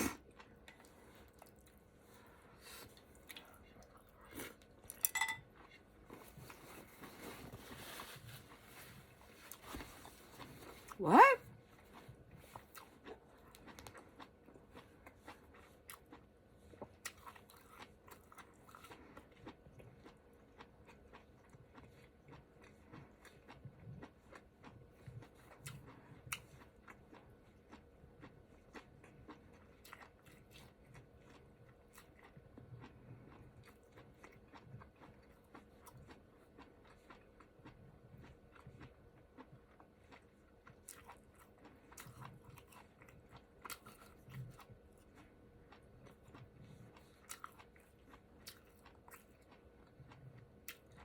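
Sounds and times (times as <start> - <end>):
chewing and biting: 0.0 - 51.0.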